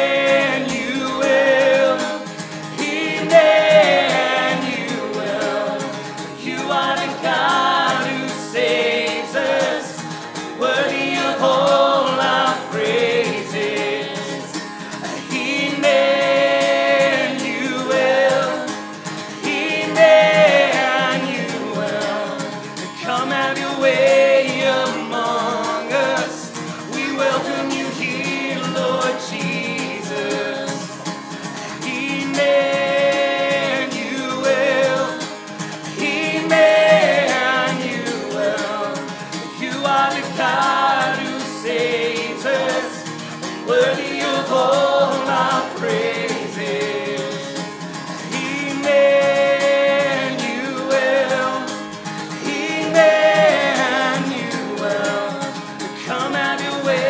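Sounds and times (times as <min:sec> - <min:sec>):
strummed acoustic guitar: 0:00.0 - 0:57.0
voices singing worship song: 0:00.0 - 0:57.0.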